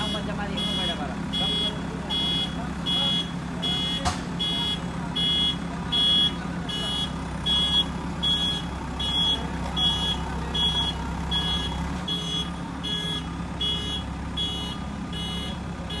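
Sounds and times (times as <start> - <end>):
diesel engine running: 0.0 - 16.0
high-pitched reversing alarm: 0.0 - 16.0.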